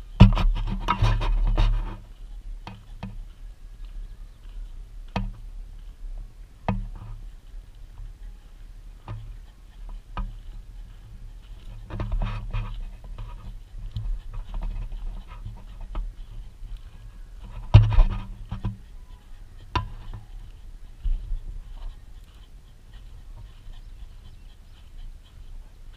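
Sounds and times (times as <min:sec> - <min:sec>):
dogs panting: 0:00.0 - 0:25.9.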